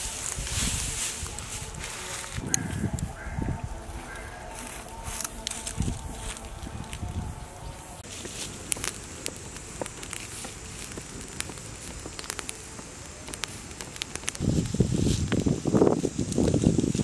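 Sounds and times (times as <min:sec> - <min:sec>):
burning straw crackling and popping: 0:00.0 - 0:17.0
stick stirring burning straw: 0:00.0 - 0:17.0.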